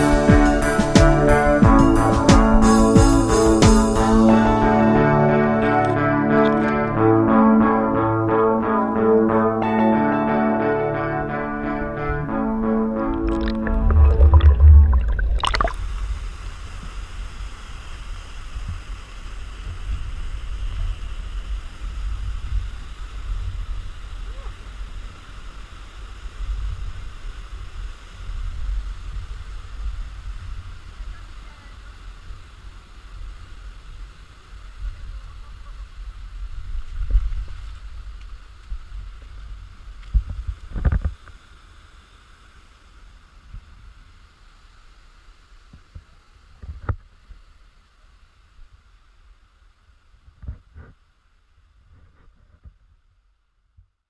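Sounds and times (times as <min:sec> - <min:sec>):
faint steady hiss: 0:10.0 - 0:53.8.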